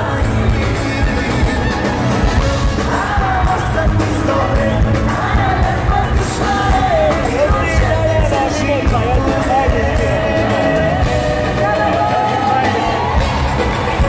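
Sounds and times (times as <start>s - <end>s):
live pop band playing: 0.0s - 14.0s
person singing lead vocal: 0.0s - 14.0s.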